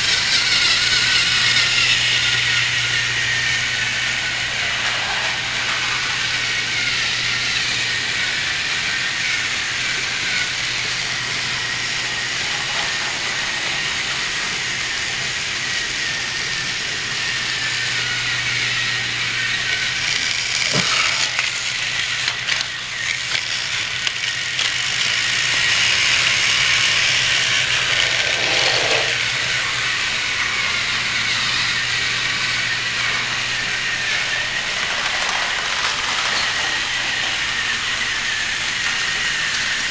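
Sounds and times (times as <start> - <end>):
wheels rattling over plastic track: 0.0 - 15.3, 19.4 - 30.7, 32.8 - 39.9
toy train motor whine: 0.0 - 39.9.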